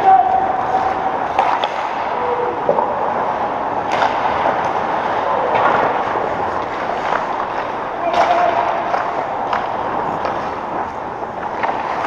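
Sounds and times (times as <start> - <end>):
rink and crowd noise: 0.0 - 12.0.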